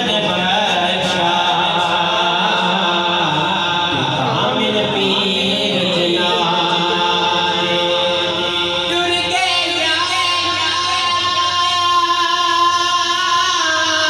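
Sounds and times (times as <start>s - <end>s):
voices singing unaccompanied: 0.0s - 14.0s.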